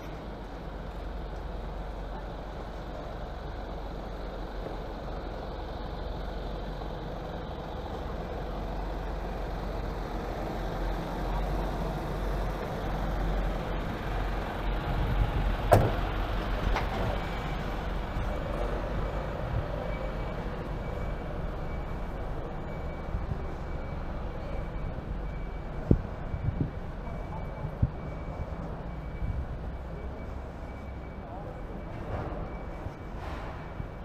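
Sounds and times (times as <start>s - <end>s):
truck engines rumbling: 0.0s - 34.0s.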